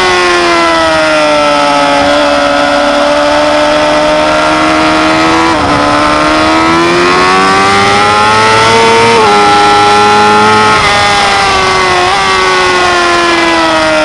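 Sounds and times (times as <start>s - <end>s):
motorcycle engine accelerating: 0.0s - 14.0s
wind rush: 2.0s - 13.4s.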